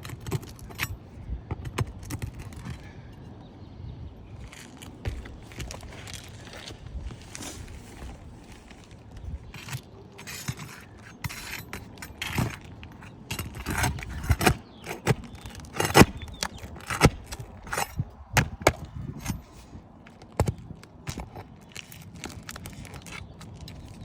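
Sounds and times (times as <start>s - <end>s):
shingles scraping and cracking: 4.4s - 24.0s.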